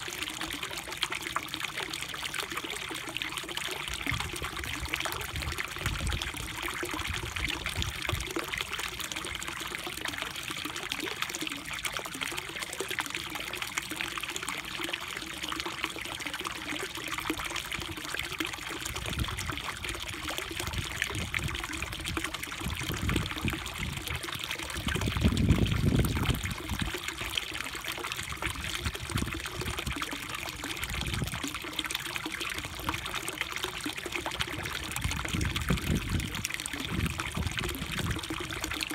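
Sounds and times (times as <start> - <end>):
water trickling into a pond: 0.0 - 38.9.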